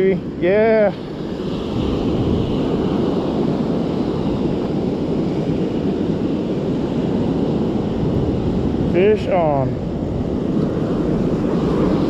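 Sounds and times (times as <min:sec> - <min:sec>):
ocean surf: 0:00.0 - 0:12.0
wind on microphone: 0:00.0 - 0:12.0.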